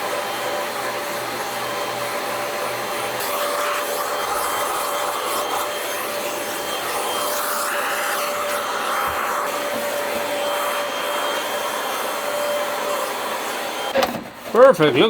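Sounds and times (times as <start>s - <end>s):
electric motor blowing air: 0.0s - 14.0s.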